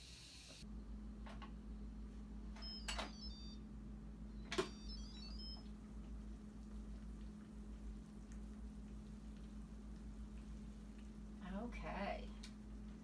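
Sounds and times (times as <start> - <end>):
steady low hum: 0.6 - 13.0.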